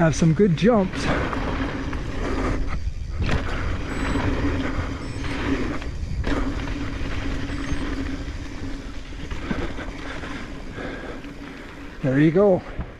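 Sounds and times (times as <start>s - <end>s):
wind rush: 0.0s - 11.5s
steady buzzing tone: 0.0s - 12.9s
tyres rolling over dirt: 0.0s - 12.9s.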